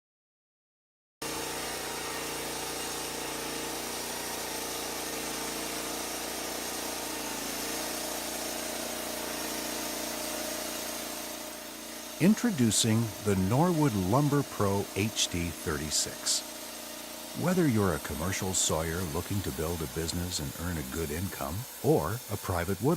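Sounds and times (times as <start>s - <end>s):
sawmill engine idling: 1.2s - 22.9s.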